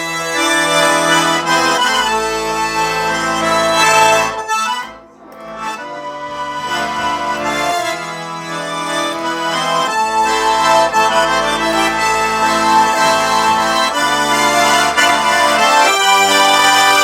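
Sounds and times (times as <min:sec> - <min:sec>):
button accordion playing melody: 0:00.0 - 0:17.0.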